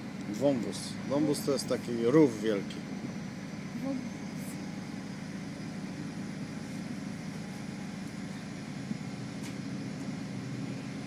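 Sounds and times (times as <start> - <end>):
railbus engine droning: 0.0 - 11.0.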